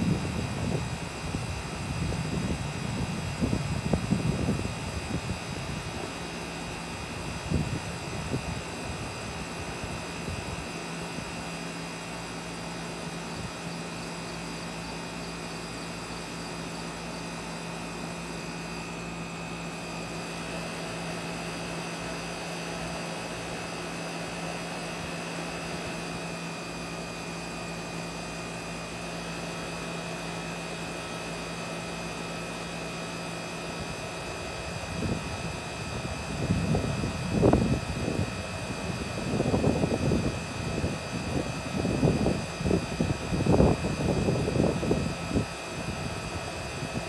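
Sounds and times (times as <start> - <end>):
fan rush of air: 0.0 - 47.0
steady low hum: 0.0 - 47.0.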